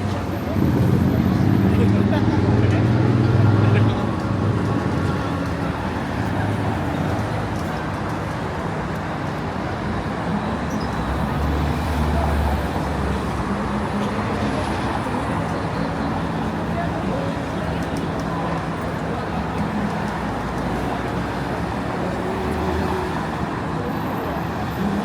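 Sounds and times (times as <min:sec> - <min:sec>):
road noise of passing vehicles: 0:00.0 - 0:25.0.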